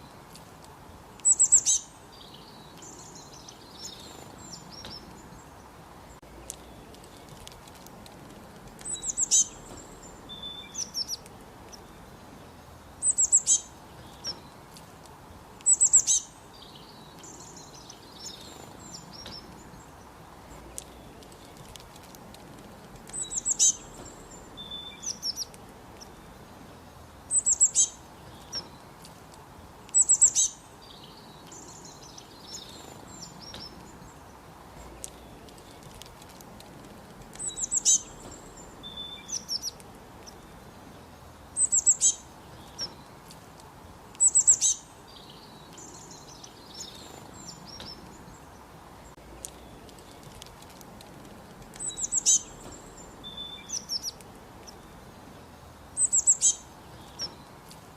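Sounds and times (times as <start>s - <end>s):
songbird singing: 0.0s - 57.9s
steady background hiss: 0.0s - 57.9s.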